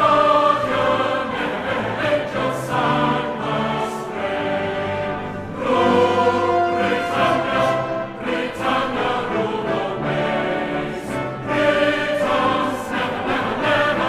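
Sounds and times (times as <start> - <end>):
choir singing long held notes: 0.0 - 14.0.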